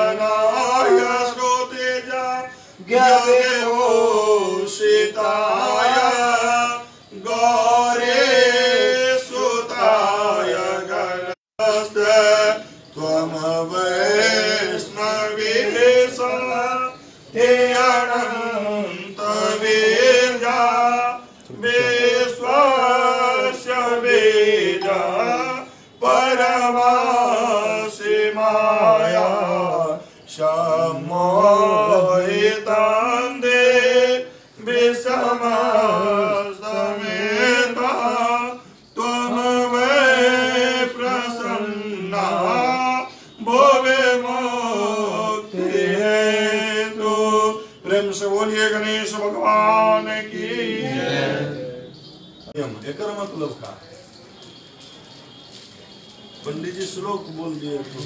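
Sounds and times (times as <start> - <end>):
man chanting mantras: 0.0 - 54.2, 56.3 - 58.0.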